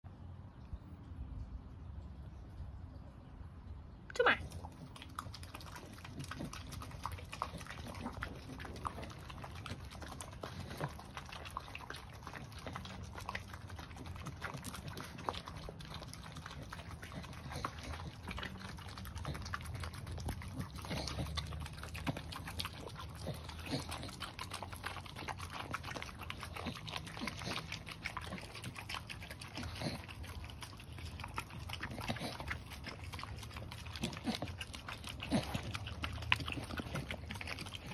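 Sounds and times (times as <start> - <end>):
dogs licking and slurping: 4.2 - 37.9.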